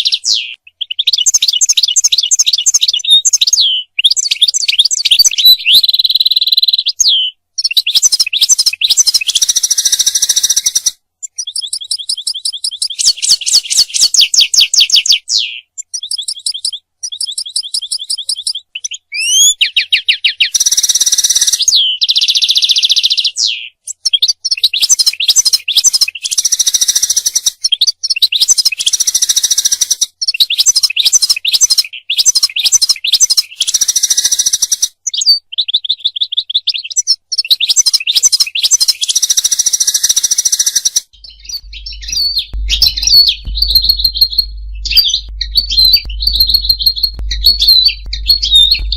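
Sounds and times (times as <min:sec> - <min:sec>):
goldfinch singing: 0:00.0 - 0:48.9.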